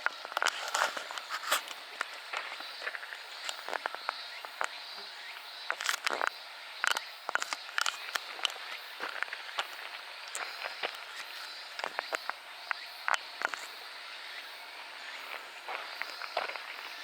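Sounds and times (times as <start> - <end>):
footsteps crunching on path: 0.0 - 17.0
high-pitched insect drone: 0.0 - 17.0.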